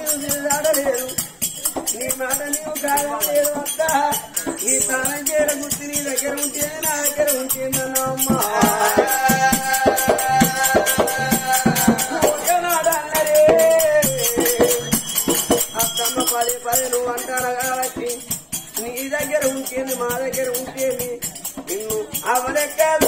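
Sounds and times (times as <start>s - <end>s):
person singing folk song: 0.0s - 23.0s
rattling percussion: 0.0s - 23.0s.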